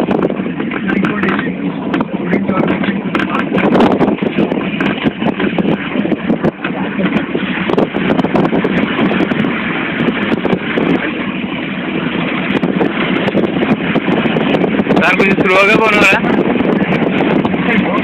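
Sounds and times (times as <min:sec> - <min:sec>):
vehicle engine and road noise: 0:00.0 - 0:18.0
wind rushing over microphone: 0:00.0 - 0:18.0.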